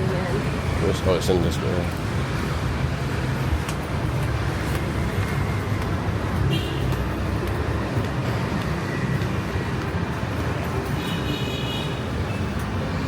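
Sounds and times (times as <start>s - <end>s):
low rumble of street noise: 0.0s - 13.0s.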